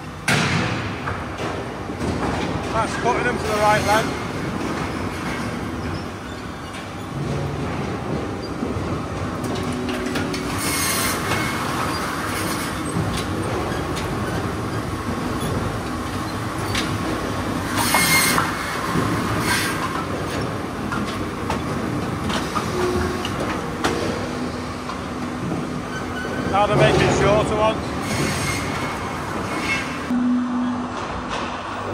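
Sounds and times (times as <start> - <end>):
firewood processing machine running: 0.0 - 30.2.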